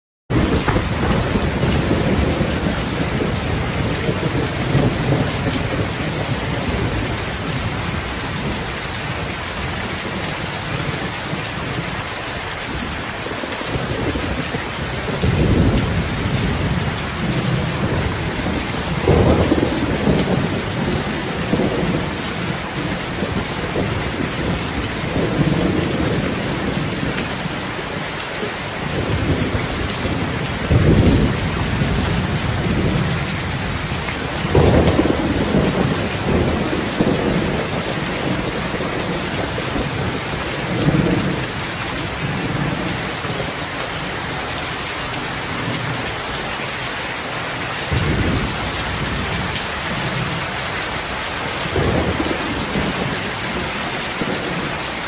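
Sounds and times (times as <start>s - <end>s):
distant thunder rolling: 0.3s - 11.9s, 13.7s - 27.9s, 28.8s - 44.1s, 47.9s - 50.4s, 51.4s - 54.8s
heavy rain: 0.3s - 55.0s.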